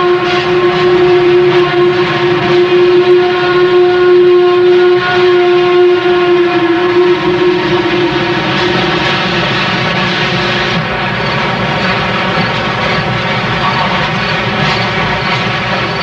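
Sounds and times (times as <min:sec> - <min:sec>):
steam locomotive whistle: 0:00.0 - 0:16.0
working steam noise: 0:00.0 - 0:16.0.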